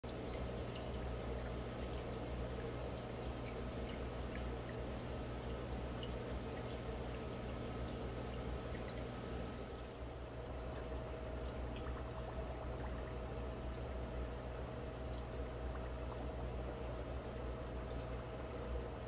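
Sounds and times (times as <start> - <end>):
aquarium water trickling and bubbling: 0.0 - 19.0
small water drips: 0.0 - 19.0
steady low hum: 0.0 - 19.0.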